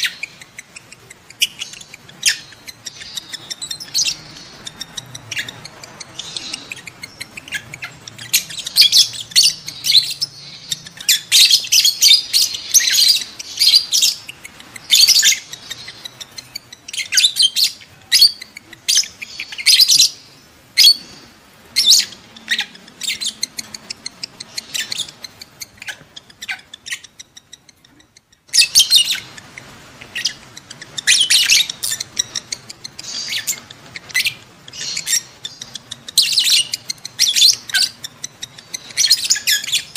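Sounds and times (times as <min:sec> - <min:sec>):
lovebirds chirping and squeaking: 0:00.0 - 0:39.9.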